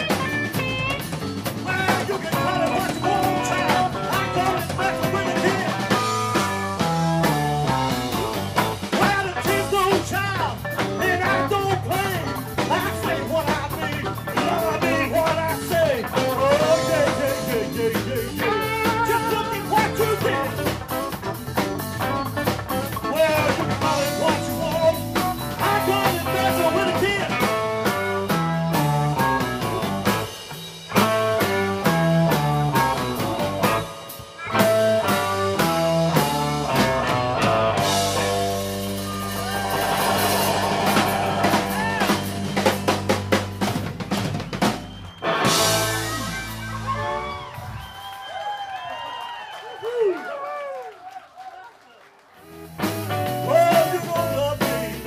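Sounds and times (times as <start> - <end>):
walking bass line: 0.0 - 47.9, 52.5 - 55.0
electric guitars: 0.0 - 48.1, 52.4 - 55.0
drum kit: 0.0 - 48.6, 52.4 - 55.0.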